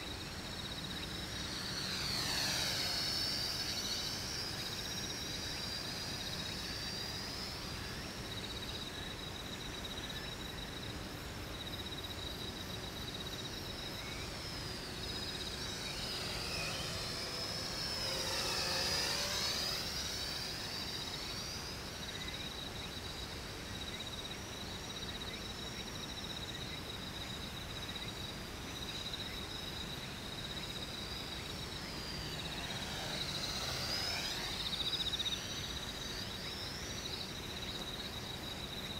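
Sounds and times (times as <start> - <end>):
quadcopter propellers buzzing: 0.0 - 11.1, 12.0 - 25.8, 29.2 - 38.9.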